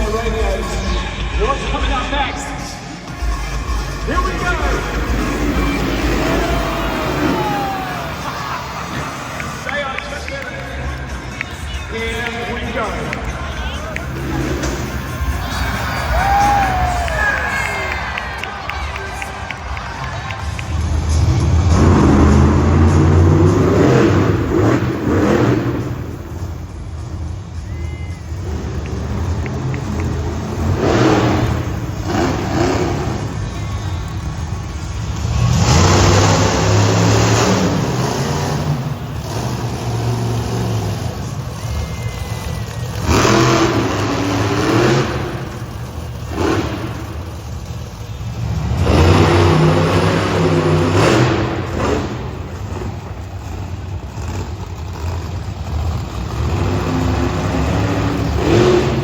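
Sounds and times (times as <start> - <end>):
monster truck engines revving: 0.0 - 59.0.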